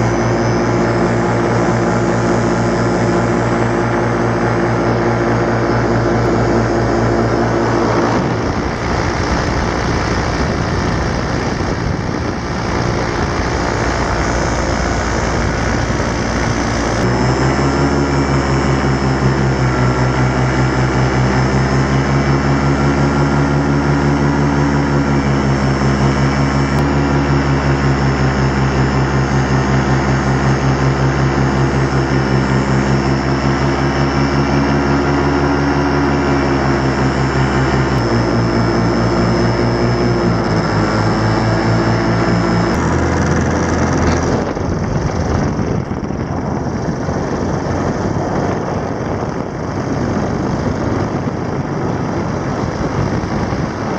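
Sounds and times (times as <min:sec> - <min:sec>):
paramotor engine droning: 0:00.0 - 0:53.9.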